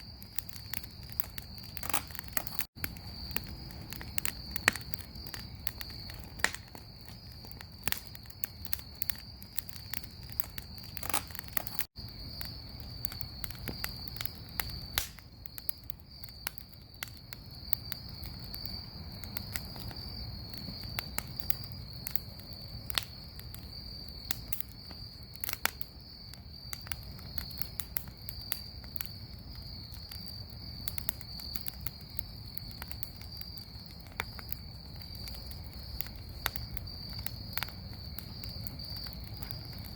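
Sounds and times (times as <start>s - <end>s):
bonfire crackling and popping: 0.0s - 39.9s
crickets chirping: 0.0s - 39.9s.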